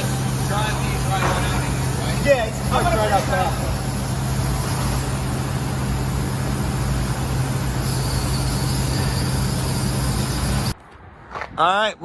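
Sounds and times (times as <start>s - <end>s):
high machine whine: 0.0s - 10.8s
industrial machinery hum: 0.0s - 11.2s.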